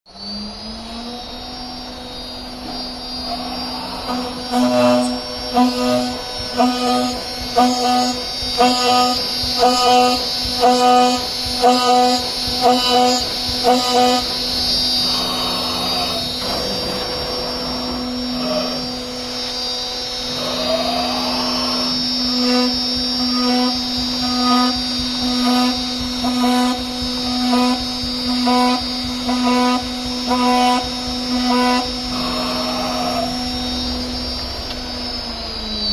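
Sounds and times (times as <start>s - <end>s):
axis motors whirring: 0.1s - 35.9s
router spindle humming and whining: 0.1s - 35.9s.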